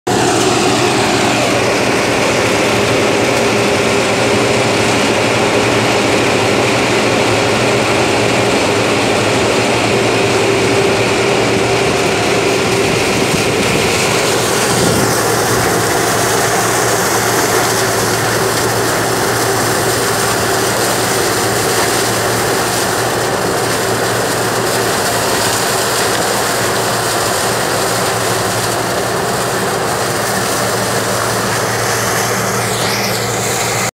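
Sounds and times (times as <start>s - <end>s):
harvester engine and machinery drone: 0.1s - 33.9s.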